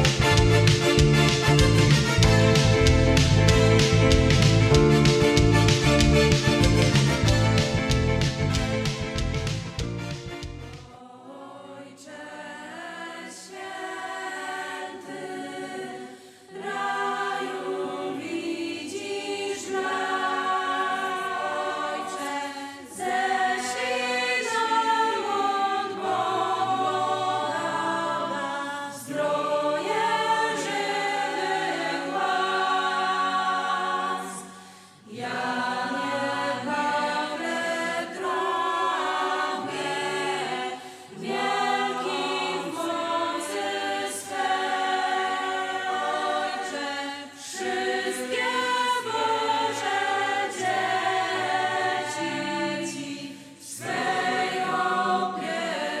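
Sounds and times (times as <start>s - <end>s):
choir of young women singing: 10.9s - 56.0s.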